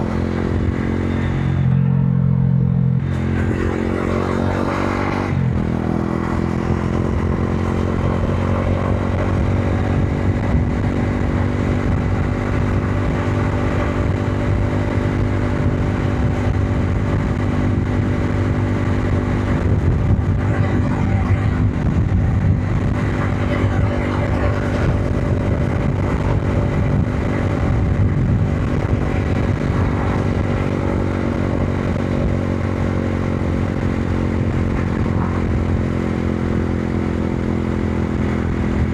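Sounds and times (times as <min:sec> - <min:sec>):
motorcycle engine running: 0:00.0 - 0:38.9
rush of air and road noise: 0:00.0 - 0:38.9.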